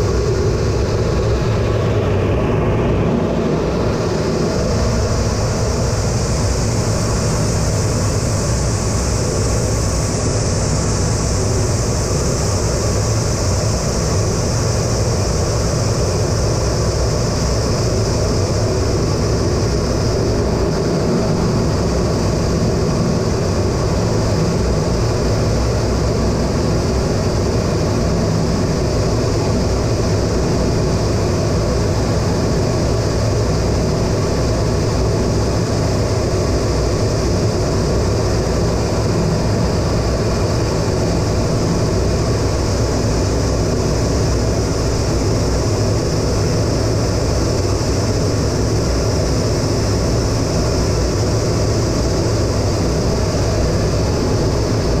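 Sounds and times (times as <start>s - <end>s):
high jet engine whine: 0.0s - 55.0s.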